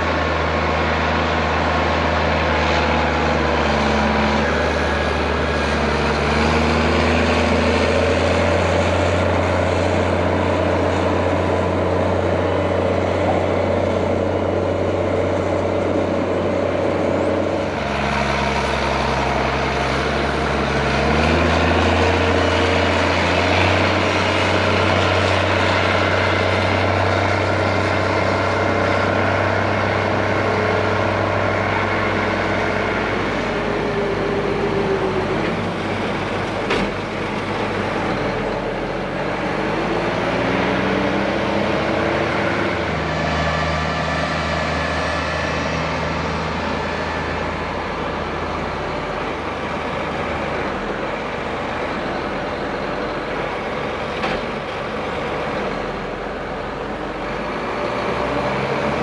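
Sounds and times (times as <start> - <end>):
diesel tractor engines working: 0.0 - 59.0.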